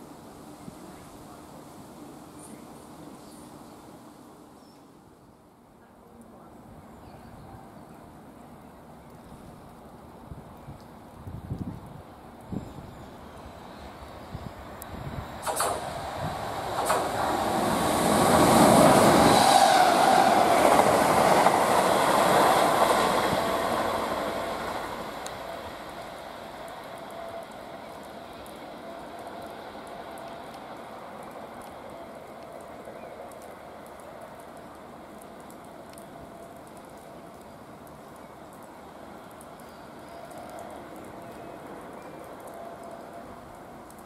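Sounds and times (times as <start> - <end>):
train passing on rails: 0.0 - 4.6, 6.6 - 44.0.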